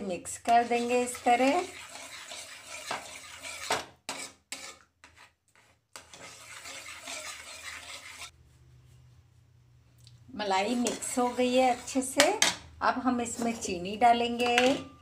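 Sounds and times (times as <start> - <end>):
spoon scraping steel pan: 0.0 - 8.4, 10.4 - 15.0.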